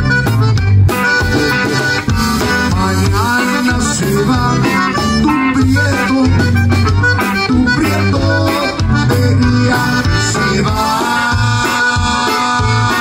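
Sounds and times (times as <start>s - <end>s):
accordion: 0.0s - 13.0s
drum kit beat: 0.0s - 13.0s
electric bass: 0.0s - 13.0s
guitar: 0.0s - 13.0s.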